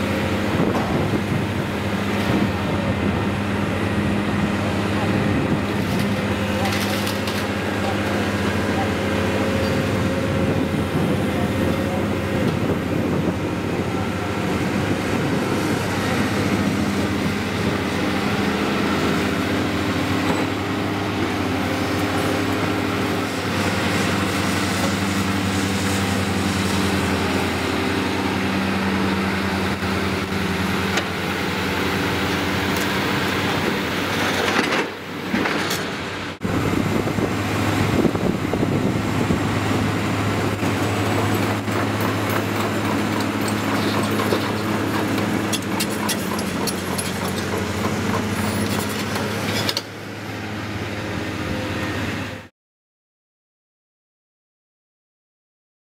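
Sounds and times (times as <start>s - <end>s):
excavator diesel engine and hydraulics: 0.0s - 52.5s.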